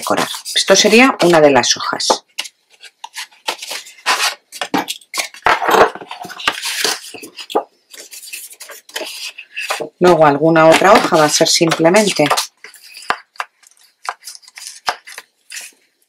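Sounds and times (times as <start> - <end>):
cardstock rustling and scraping: 0.0 - 1.5, 2.3 - 16.0.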